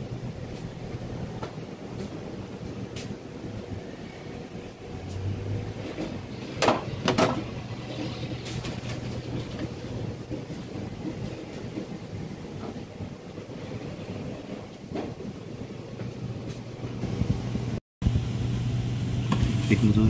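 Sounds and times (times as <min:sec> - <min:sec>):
kitchen hum and rumble: 0:00.0 - 0:12.2, 0:15.8 - 0:20.0.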